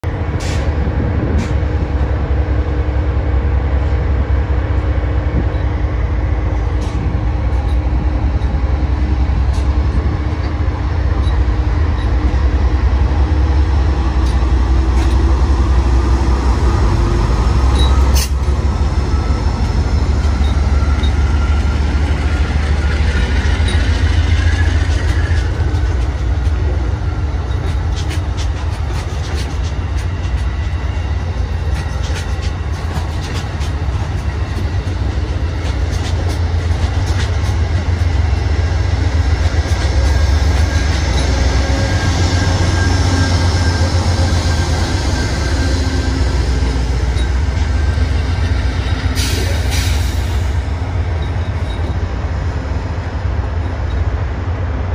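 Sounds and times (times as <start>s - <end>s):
diesel locomotive engine rumbling: 0.0s - 54.9s.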